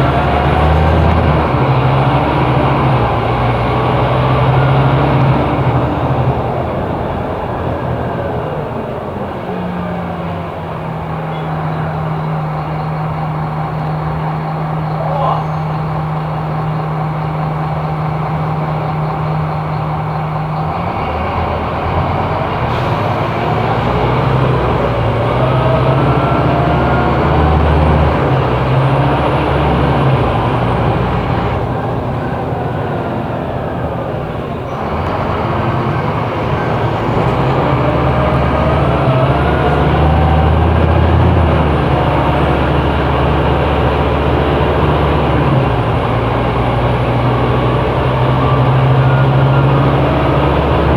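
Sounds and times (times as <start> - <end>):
bus diesel engine accelerating: 0.0 - 50.9.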